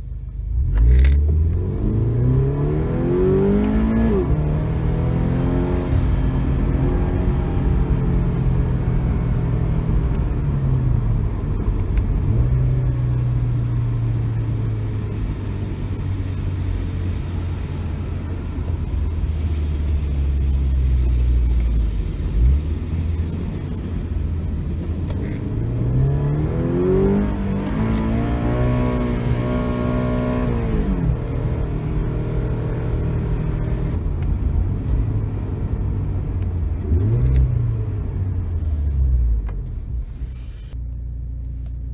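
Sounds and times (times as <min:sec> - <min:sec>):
car engine from inside cabin: 0:00.0 - 0:41.9.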